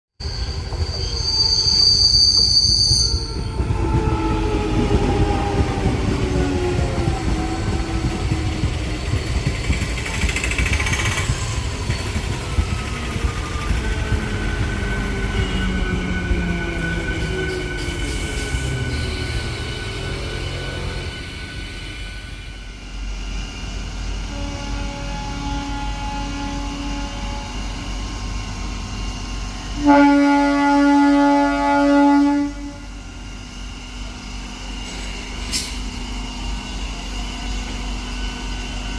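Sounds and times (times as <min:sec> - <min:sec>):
train accelerating: 0:00.2 - 0:38.9.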